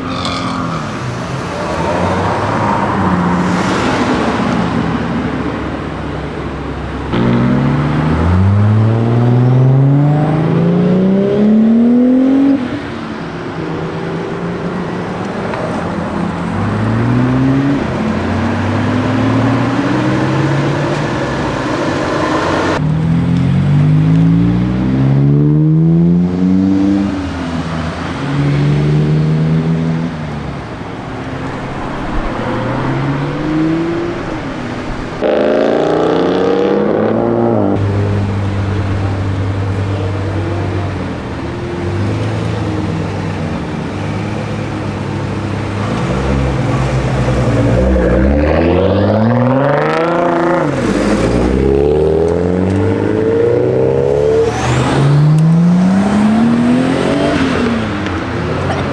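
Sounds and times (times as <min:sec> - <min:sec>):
car engines idling: 0:00.0 - 0:10.9, 0:12.6 - 0:24.6, 0:27.0 - 0:58.9
car accelerating: 0:00.0 - 0:58.9
car engines revving: 0:00.0 - 0:58.9.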